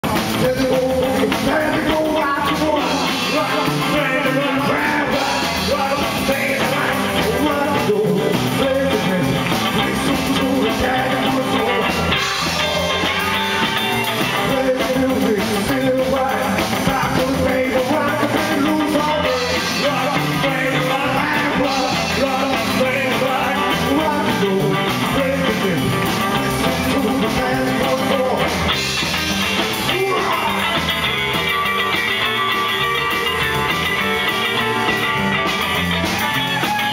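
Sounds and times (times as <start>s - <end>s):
man singing: 0.0s - 31.9s
drums: 0.0s - 36.9s
electric guitars: 0.0s - 36.9s.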